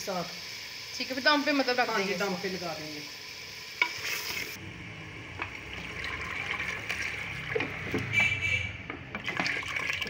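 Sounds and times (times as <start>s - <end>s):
water pouring into a pot: 0.0s - 4.6s, 5.2s - 8.1s, 9.0s - 10.0s.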